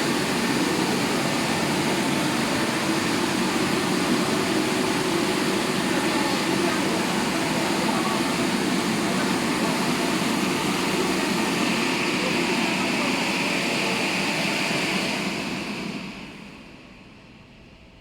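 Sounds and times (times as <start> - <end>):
car wash machine rushing: 0.0 - 17.0.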